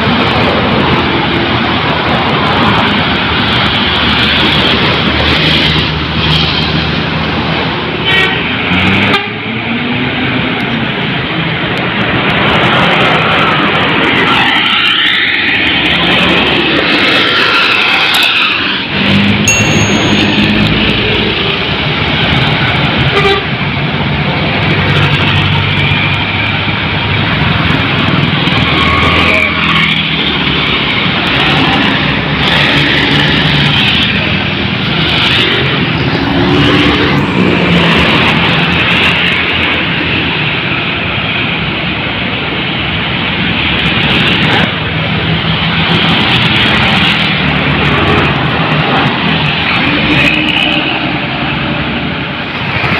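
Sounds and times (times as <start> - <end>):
vehicles driving past: 0.0 - 52.9.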